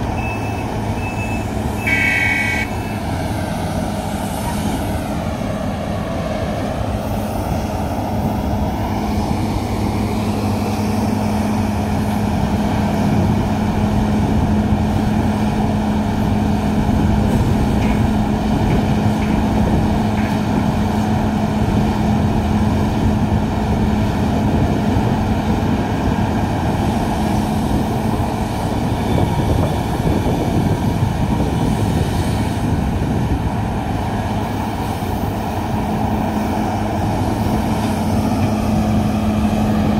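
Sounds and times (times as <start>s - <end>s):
heavy diesel engines droning: 0.0s - 39.9s.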